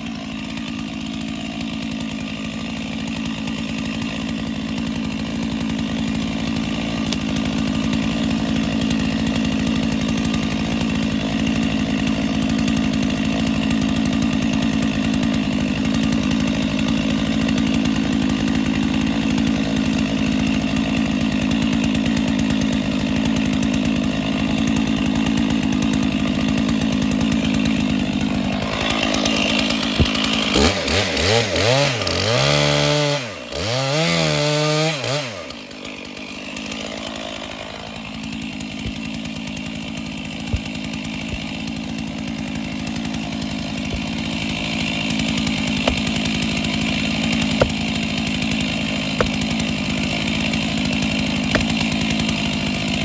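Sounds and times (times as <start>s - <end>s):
chainsaw cutting: 0.0s - 53.0s.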